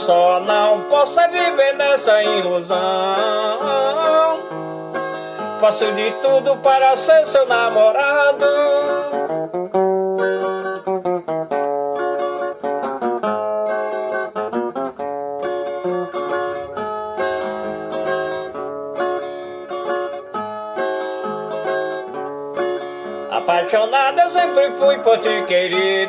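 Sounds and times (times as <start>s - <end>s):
plucked guitar melody: 0.0s - 26.0s.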